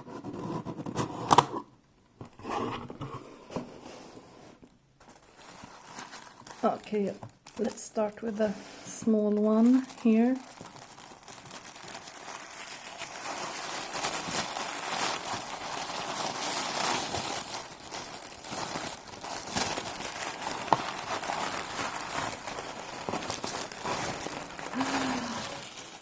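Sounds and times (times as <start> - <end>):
packaging rustling and crinkling: 2.2 - 26.0.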